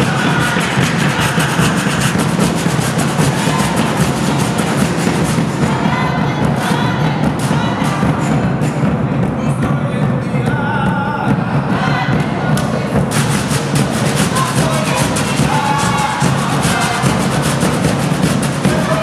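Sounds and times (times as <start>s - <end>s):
group of voices singing: 0.0s - 19.0s
large drums beaten with sticks: 0.0s - 19.0s.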